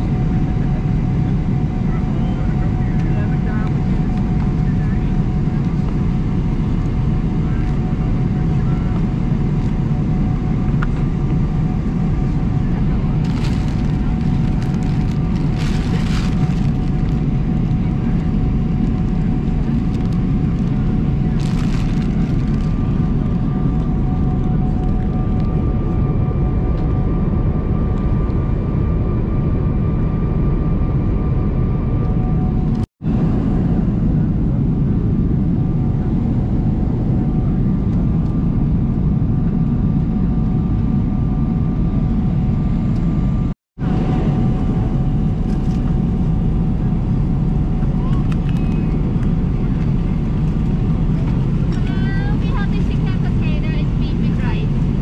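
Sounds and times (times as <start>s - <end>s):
airliner cabin engine rush: 0.0s - 55.0s.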